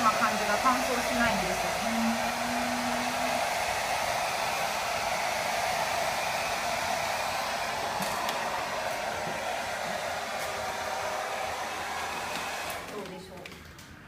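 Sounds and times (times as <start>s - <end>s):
hair dryer blowing: 0.0s - 13.2s.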